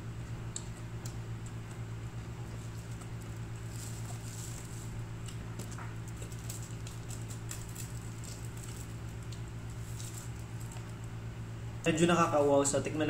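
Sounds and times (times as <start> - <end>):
steady low hum: 0.0 - 13.0
person chewing: 0.4 - 11.1.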